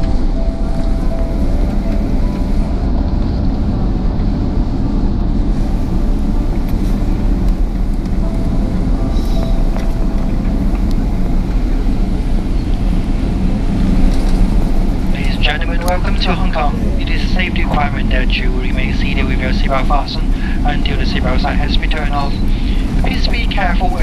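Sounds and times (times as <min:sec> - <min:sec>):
airplane cabin low rumble: 0:00.0 - 0:24.0
faint engine tone: 0:00.0 - 0:24.0.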